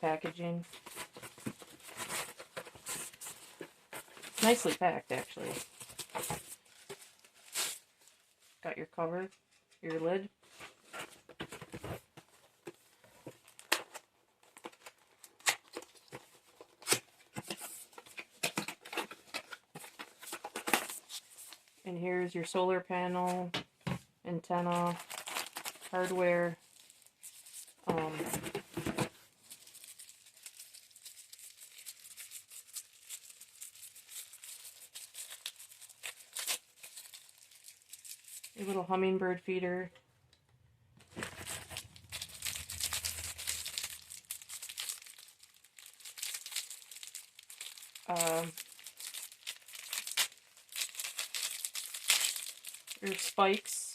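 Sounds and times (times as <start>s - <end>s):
packaging rustling and crinkling: 0.0s - 8.6s, 10.4s - 21.8s, 24.7s - 38.6s, 41.0s - 53.7s.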